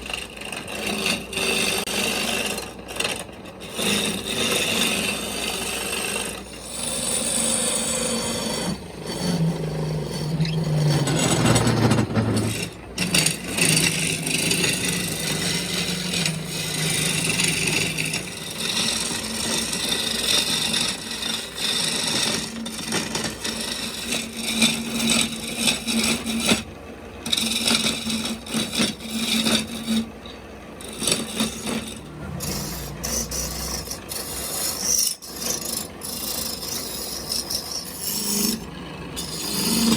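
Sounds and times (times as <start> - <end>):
hand tool scraping wood: 0.0 - 26.7, 27.3 - 39.9.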